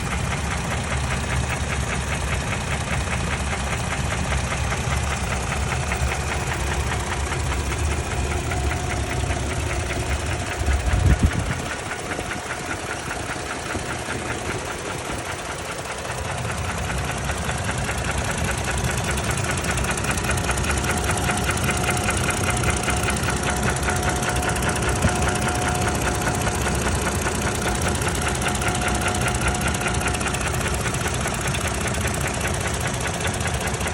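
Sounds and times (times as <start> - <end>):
truck engine running with knocking: 0.0 - 33.9.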